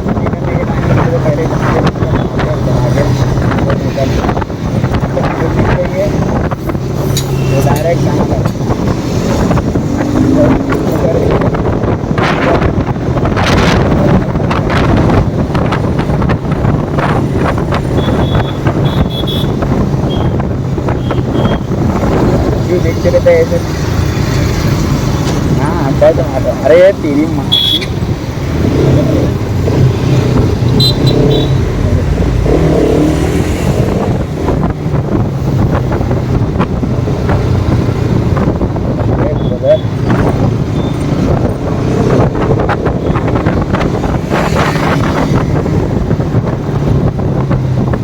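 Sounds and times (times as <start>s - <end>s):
wind noise on microphone: 0.0s - 48.0s
motorcycle engine running: 1.1s - 48.0s.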